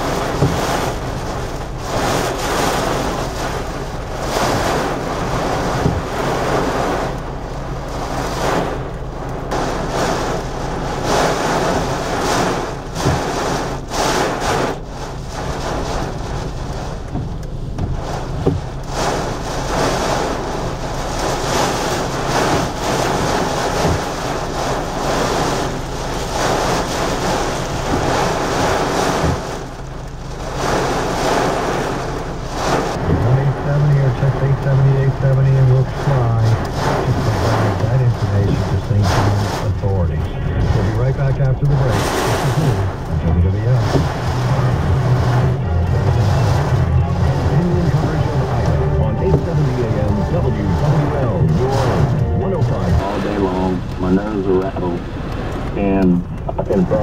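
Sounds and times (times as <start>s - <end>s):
gusting wind: 0.0s - 57.0s
heavy rain beating on a car: 0.0s - 57.0s
low hum of car: 0.0s - 57.0s.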